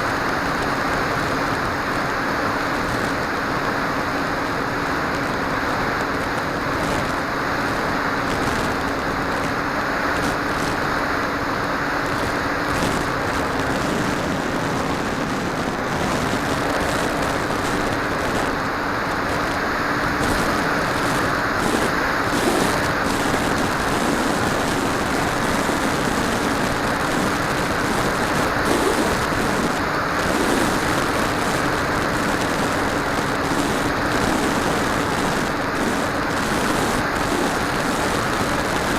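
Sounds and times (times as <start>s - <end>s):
model aircraft flying: 0.0s - 38.9s.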